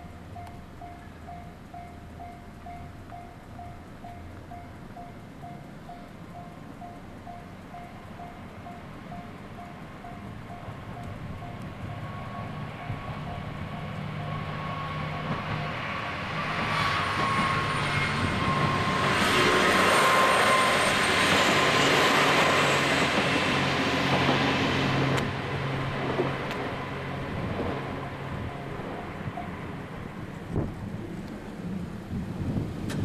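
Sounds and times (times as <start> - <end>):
railcar engine hum: 0.0 - 33.0
rolling train wheels: 0.0 - 33.0.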